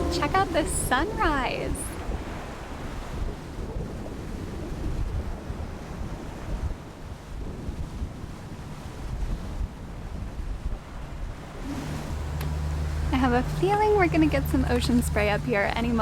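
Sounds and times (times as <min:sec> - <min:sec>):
waves washing: 0:00.0 - 0:16.0
wind buffeting microphone: 0:00.0 - 0:16.0.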